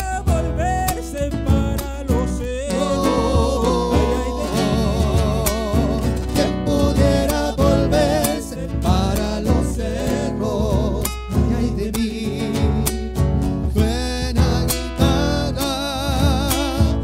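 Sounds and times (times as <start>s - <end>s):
acoustic guitars strummed and plucked: 0.0s - 17.0s
vocal group singing in harmony: 1.3s - 17.0s.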